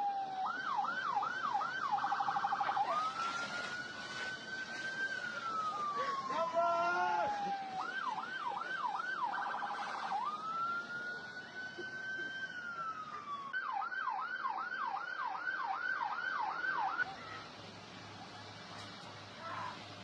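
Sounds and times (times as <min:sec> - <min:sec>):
electronic emergency siren: 0:00.0 - 0:17.1.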